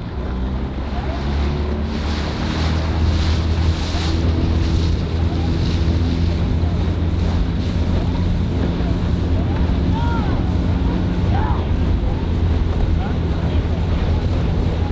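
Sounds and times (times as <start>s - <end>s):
boat engine speeding up: 0.0s - 14.9s
water rushing past hull: 0.0s - 14.9s
wind buffeting microphone: 0.0s - 14.9s.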